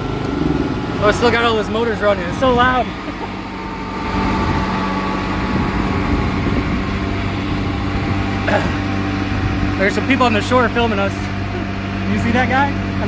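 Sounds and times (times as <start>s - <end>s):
jet engine running: 0.0s - 13.0s.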